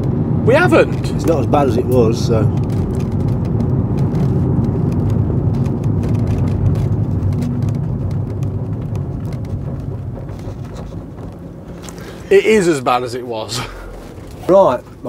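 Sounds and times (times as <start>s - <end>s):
van engine and road drone: 0.0s - 15.0s
faint rattles: 0.5s - 15.0s.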